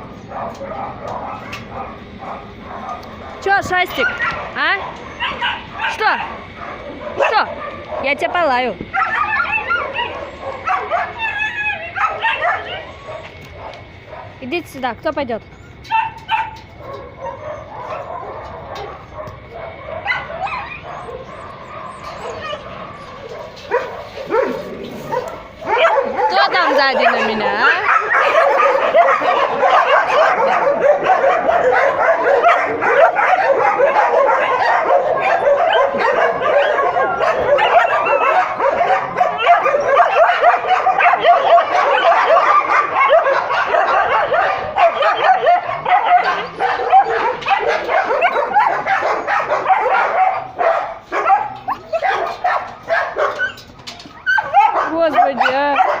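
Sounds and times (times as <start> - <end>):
dogs whimpering: 0.0 - 14.5, 15.4 - 56.0
dogs barking and yelping: 0.0 - 56.0.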